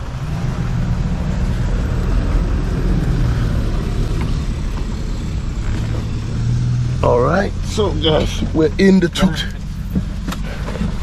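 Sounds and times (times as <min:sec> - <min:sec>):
auto-rickshaw engine running: 0:00.0 - 0:11.0.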